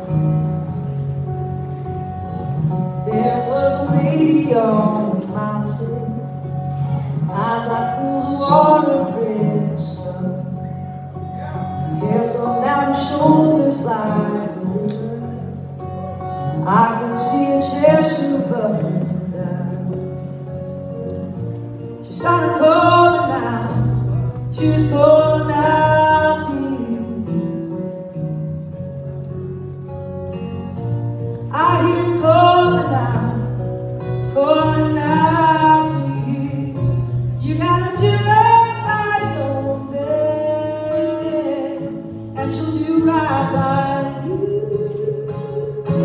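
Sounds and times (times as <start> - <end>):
acoustic guitar: 0.0 - 46.0
woman singing: 2.9 - 20.4, 22.0 - 27.8, 31.5 - 46.0.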